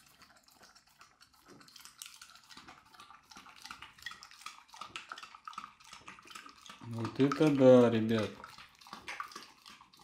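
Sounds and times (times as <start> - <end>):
dog lapping liquid: 0.0 - 10.0.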